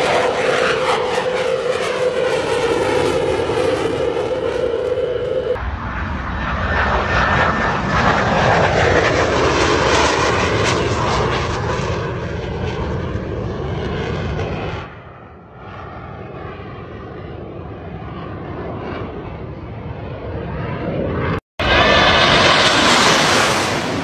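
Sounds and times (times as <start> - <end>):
jet engines roaring overhead: 0.0 - 24.0.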